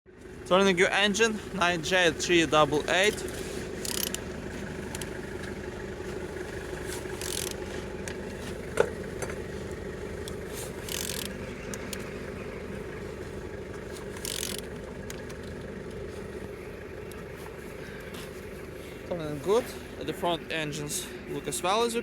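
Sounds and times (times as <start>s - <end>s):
engine whirring turned by hand: 0.1s - 22.0s.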